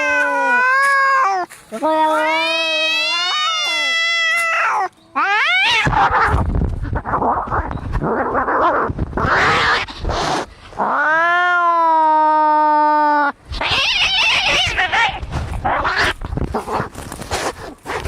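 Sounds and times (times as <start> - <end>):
cats yowling and screeching: 0.0 - 17.0.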